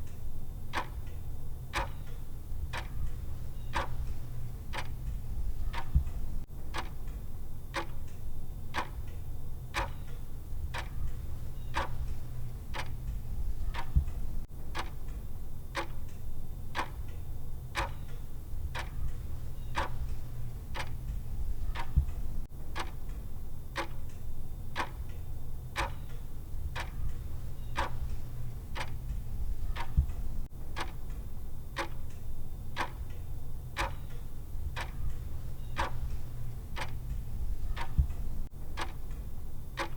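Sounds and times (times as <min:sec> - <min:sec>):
timer ticking: 0:00.0 - 0:15.2, 0:15.8 - 0:16.2, 0:16.8 - 0:17.2, 0:17.8 - 0:23.2, 0:23.8 - 0:25.2, 0:25.8 - 0:39.9.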